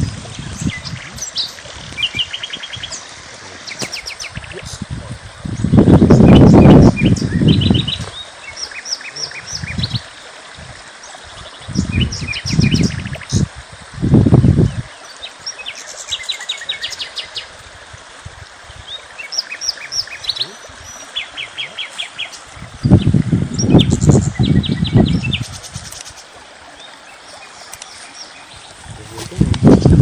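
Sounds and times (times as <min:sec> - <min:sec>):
songbirds chirping: 0:00.0 - 0:13.6, 0:14.6 - 0:17.6, 0:18.4 - 0:30.0.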